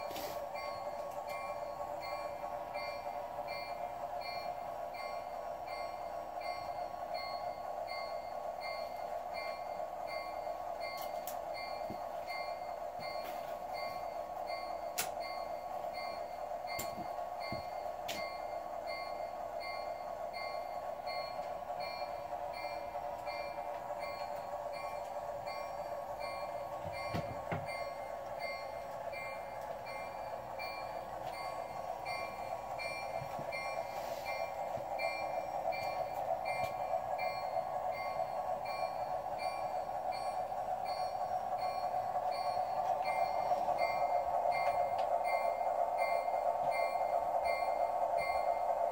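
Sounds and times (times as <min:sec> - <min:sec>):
model train rumbling on track: 0:00.0 - 0:48.9.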